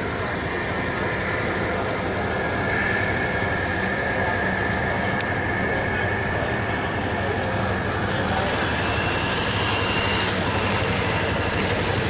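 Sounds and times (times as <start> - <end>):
model truck motor whine: 0.0 - 12.0.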